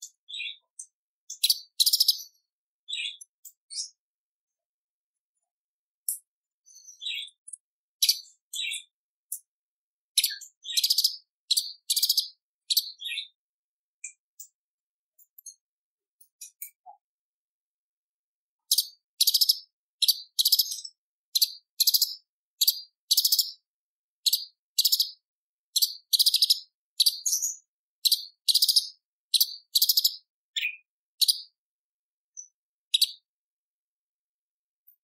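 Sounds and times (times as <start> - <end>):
bird singing harsh rattling phrases: 0.0 - 17.2, 18.6 - 31.6, 32.3 - 33.3.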